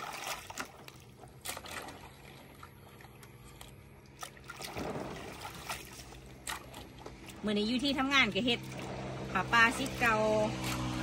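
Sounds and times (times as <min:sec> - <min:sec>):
water sloshing in a basin: 0:00.0 - 0:11.0.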